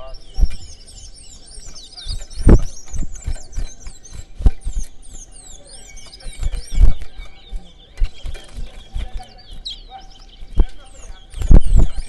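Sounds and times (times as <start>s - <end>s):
finches singing whistled notes: 0.0s - 12.0s.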